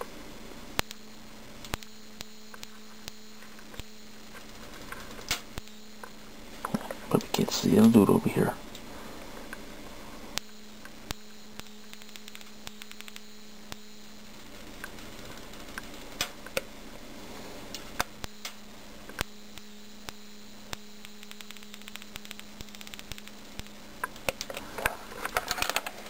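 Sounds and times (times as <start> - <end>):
low electrical hum: 0.0 - 26.0
electric discharges snapping: 0.7 - 1.0, 1.6 - 8.0, 10.3 - 16.7, 17.7 - 26.0.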